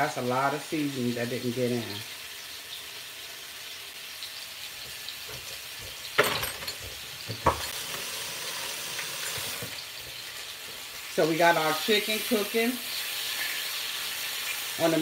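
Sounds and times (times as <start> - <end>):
chicken sizzling in oil: 0.0 - 6.2, 6.8 - 15.0.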